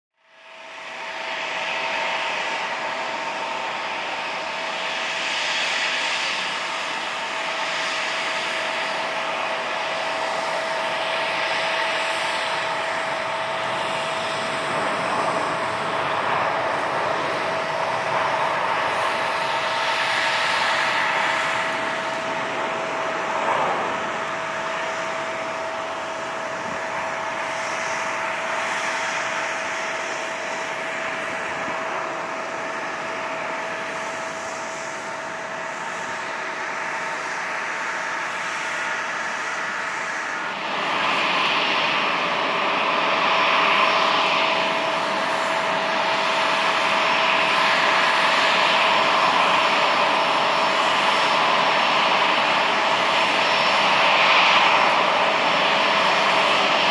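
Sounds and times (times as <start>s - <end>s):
jet engines whining: 0.3s - 56.9s.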